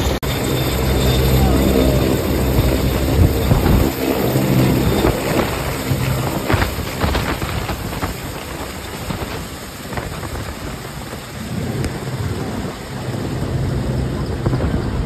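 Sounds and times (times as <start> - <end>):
helicopter rotor and turbine noise: 0.0 - 15.0
wind buffeting microphone: 0.0 - 15.0.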